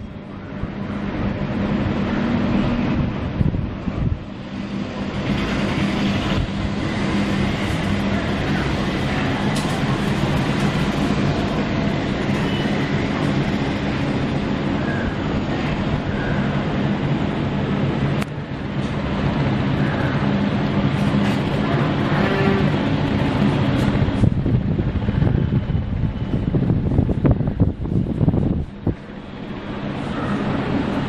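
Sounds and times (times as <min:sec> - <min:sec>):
ceiling fan rattling: 0:00.7 - 0:31.0.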